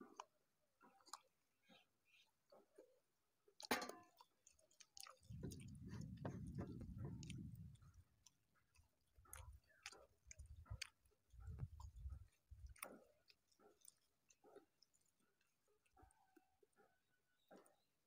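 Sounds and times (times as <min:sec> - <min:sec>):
man chewing food: 0:00.0 - 0:17.8.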